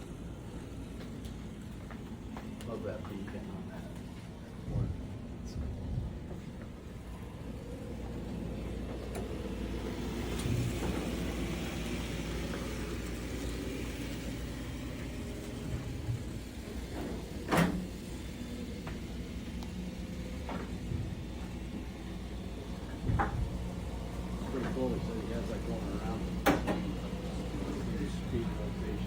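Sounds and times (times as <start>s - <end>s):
model trains humming and rattling: 0.0s - 29.0s.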